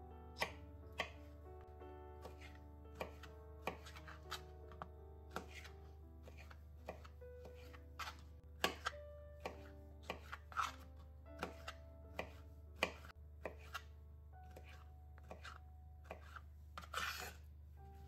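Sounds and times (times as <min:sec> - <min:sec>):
soft background music: 0:00.0 - 0:18.0
knife chopping on plastic board: 0:00.4 - 0:01.3, 0:02.2 - 0:13.9, 0:14.5 - 0:17.4.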